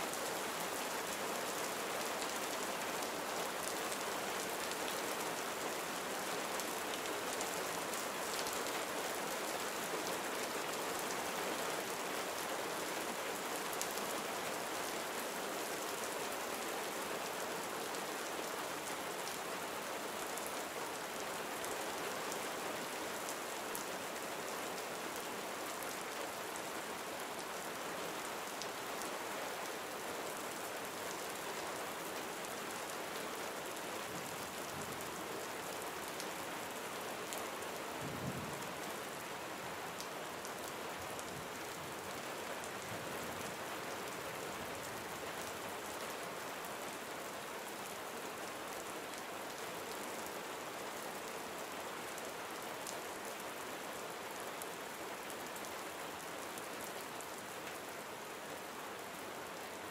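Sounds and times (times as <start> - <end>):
rain pattering: 0.1 - 50.8.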